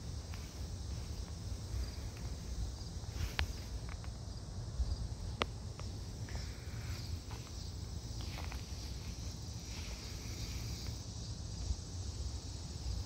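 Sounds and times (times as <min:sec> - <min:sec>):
insects trilling: 0:00.0 - 0:13.0
low uneven rumble: 0:00.0 - 0:13.0.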